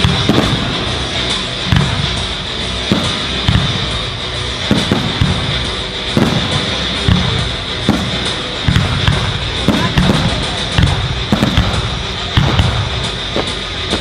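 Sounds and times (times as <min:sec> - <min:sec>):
firework shells bursting: 0:00.0 - 0:14.0
low rumble after bangs: 0:00.0 - 0:14.0.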